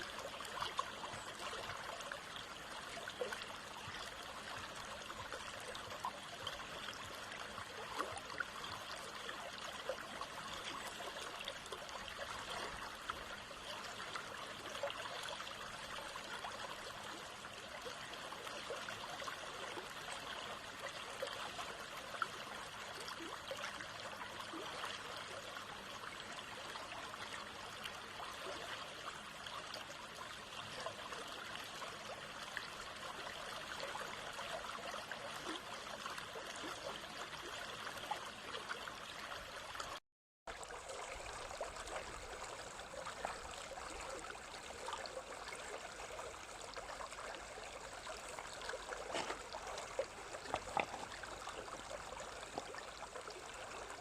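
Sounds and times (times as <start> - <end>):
stream trickling over stones: 0.0 - 54.0.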